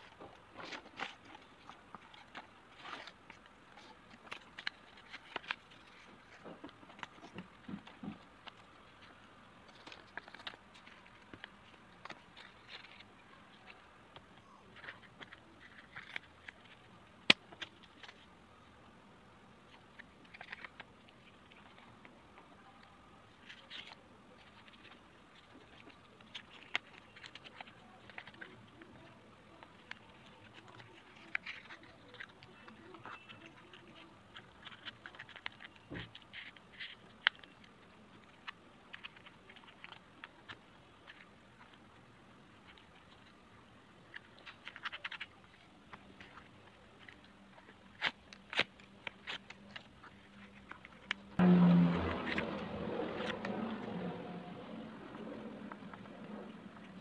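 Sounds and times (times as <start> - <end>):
paper crinkling and rustling: 0.0 - 18.7, 19.6 - 57.0.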